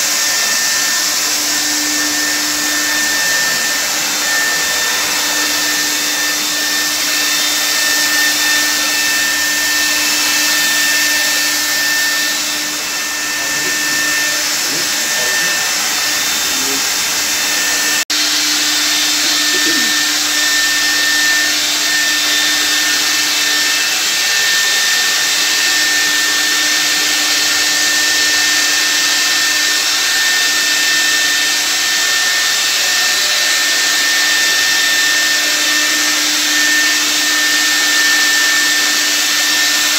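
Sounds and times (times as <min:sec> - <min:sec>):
fogger blower motor hissing: 0:00.0 - 0:39.9.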